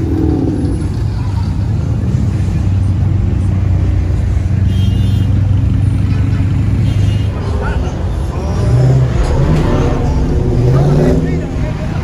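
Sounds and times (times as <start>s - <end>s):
car engines rumbling past: 0.0s - 4.7s, 5.3s - 12.0s.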